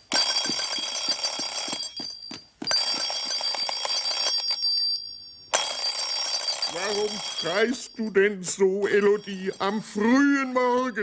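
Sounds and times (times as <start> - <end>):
telephone bell ringing: 0.1 - 11.0.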